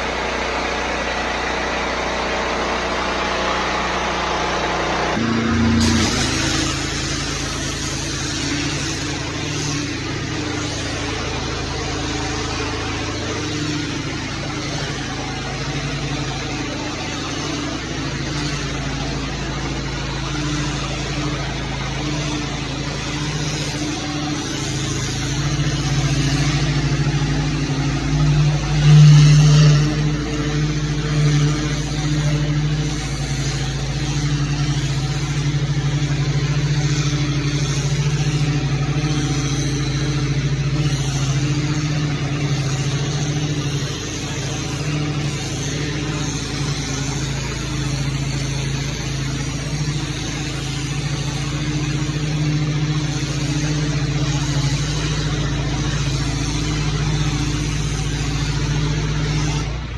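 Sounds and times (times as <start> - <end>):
gas engine running: 0.0 - 59.9
pressure washer hiss: 0.0 - 59.9.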